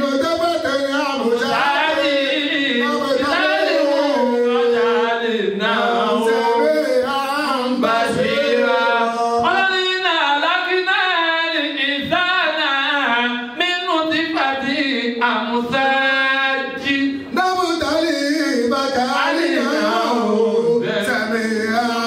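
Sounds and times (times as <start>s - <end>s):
man singing a melodic chant: 0.0s - 22.0s.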